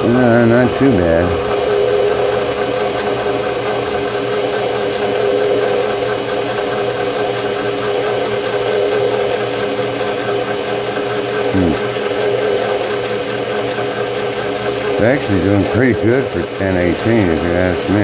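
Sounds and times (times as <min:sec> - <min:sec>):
lathe motor and gear whine: 0:00.0 - 0:18.0.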